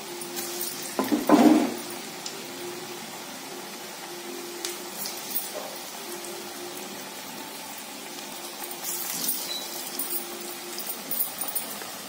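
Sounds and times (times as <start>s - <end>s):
fritters deep-frying in bubbling oil: 0.0s - 12.0s
oil crackling: 0.0s - 12.0s.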